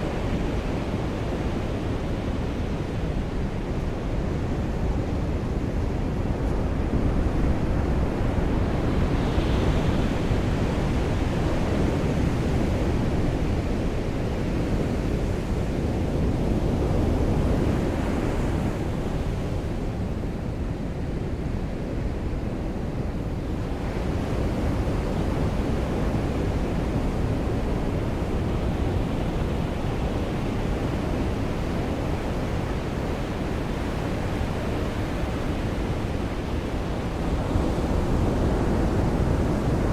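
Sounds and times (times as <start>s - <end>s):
ocean surf washing ashore: 0.0s - 39.9s.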